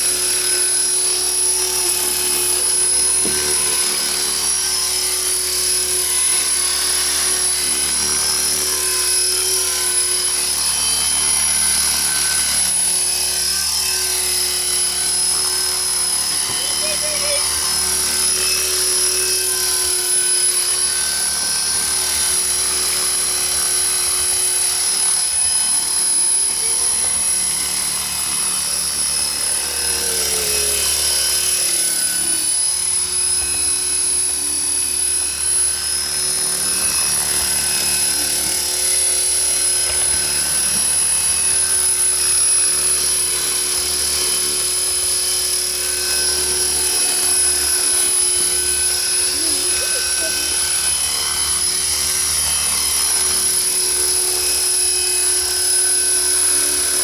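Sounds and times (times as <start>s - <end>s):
model helicopter rotor whine: 0.0s - 57.0s.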